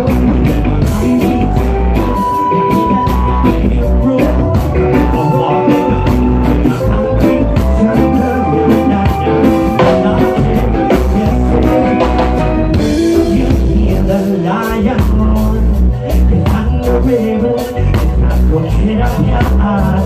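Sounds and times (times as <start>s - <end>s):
live reggae band playing: 0.0s - 20.0s
man singing: 0.0s - 20.0s.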